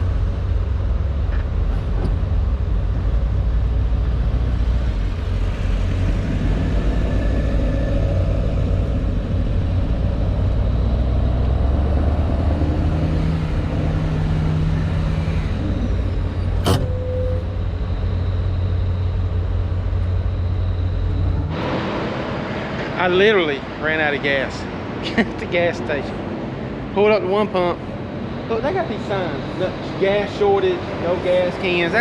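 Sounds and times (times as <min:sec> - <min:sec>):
car engine and road rumble: 0:00.0 - 0:29.4.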